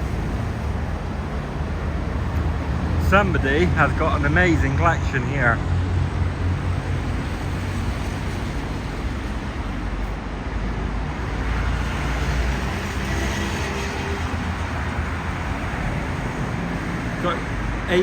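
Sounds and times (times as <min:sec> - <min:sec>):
road traffic: 0:00.0 - 0:18.0
vehicle engine rumble: 0:00.0 - 0:18.0.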